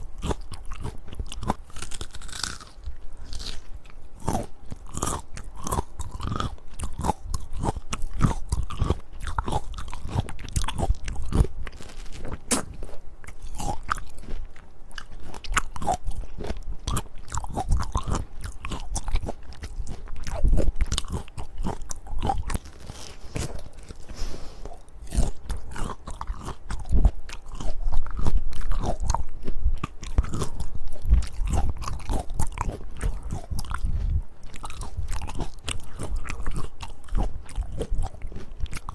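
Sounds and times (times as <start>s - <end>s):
biting and chewing fruit: 0.0s - 38.9s.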